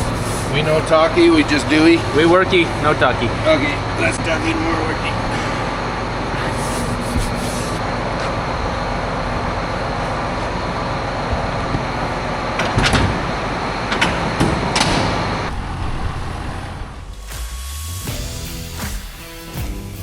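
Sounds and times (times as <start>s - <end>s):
vehicle engine running: 0.0s - 18.8s.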